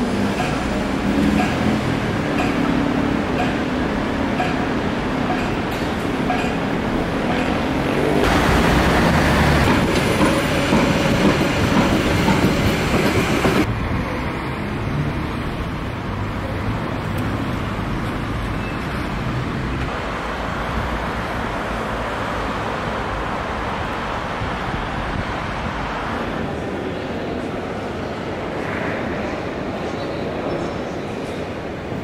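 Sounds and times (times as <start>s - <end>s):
street traffic: 0.0s - 32.0s
train passing close by: 0.0s - 32.0s.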